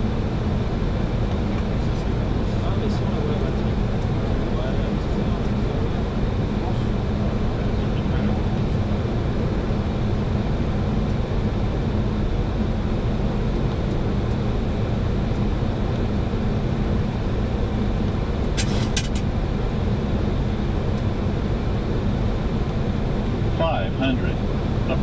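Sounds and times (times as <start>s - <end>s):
airflow and engine noise: 0.0s - 25.0s
low steady hum: 0.0s - 25.0s.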